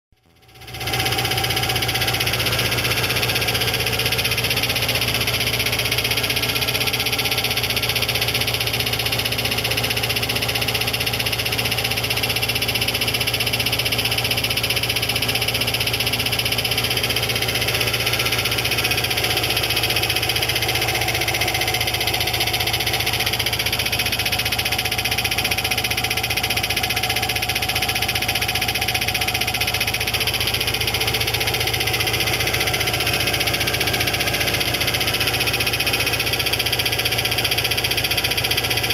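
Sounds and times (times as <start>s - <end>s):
car engine running: 0.2s - 38.9s
rapid knocking rattle: 0.3s - 38.9s.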